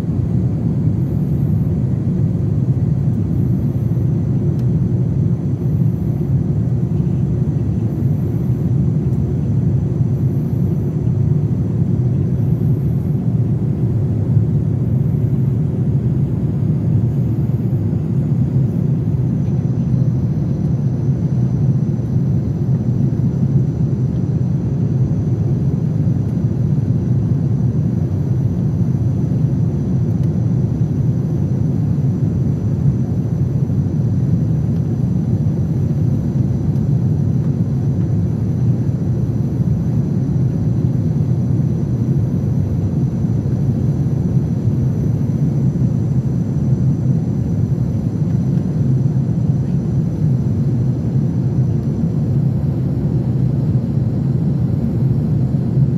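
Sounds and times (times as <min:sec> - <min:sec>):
faint high whine: 0:00.0 - 0:55.9
low rumble of jet engines: 0:00.0 - 0:55.9.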